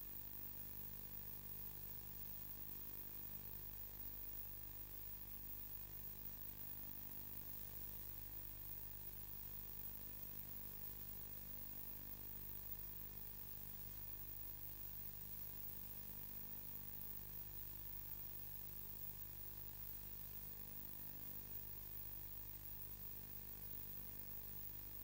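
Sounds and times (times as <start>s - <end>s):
electrical hum with hiss: 0.0s - 25.0s.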